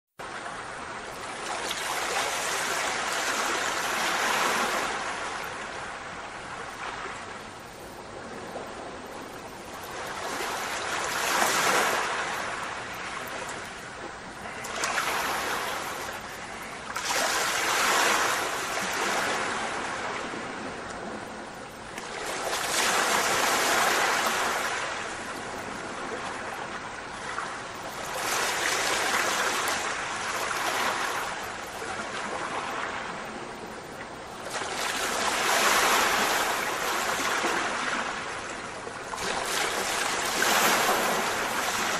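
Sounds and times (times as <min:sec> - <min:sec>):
ocean waves washing in: 0:00.2 - 0:41.9.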